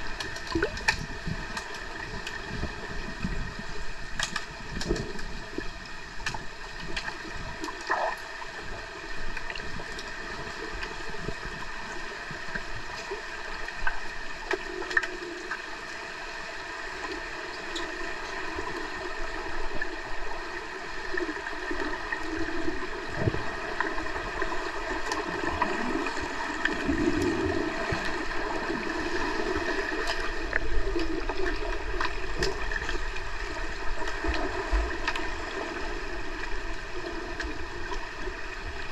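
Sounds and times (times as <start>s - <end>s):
muffled underwater water noise: 0.0s - 38.9s.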